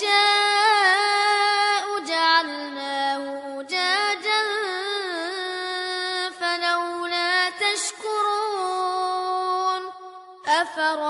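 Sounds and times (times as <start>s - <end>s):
person chanting recitation: 0.0s - 11.0s.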